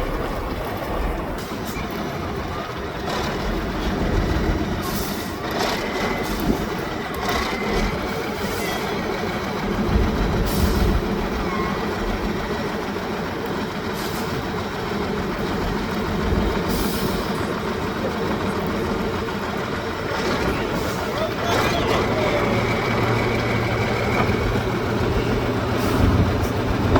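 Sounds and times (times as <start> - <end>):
diesel truck engine rumbling: 0.0 - 26.9.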